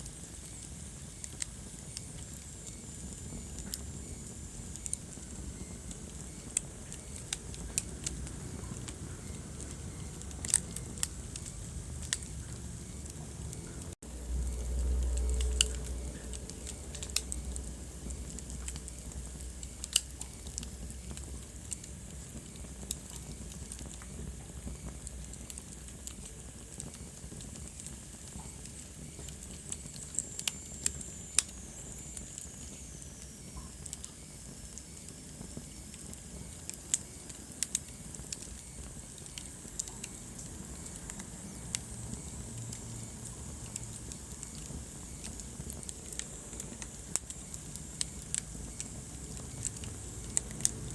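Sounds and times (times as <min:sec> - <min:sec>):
fire crackling and popping: 0:00.0 - 0:50.9
low rumble of flames: 0:00.0 - 0:50.9.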